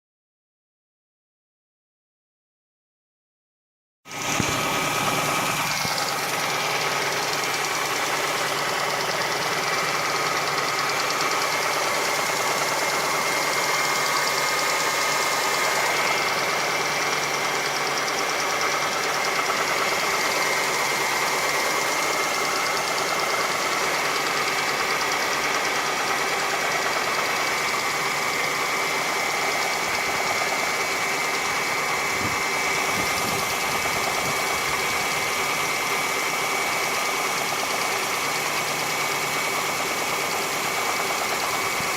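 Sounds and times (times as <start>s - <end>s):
car engine running with knocking: 4.1s - 41.9s.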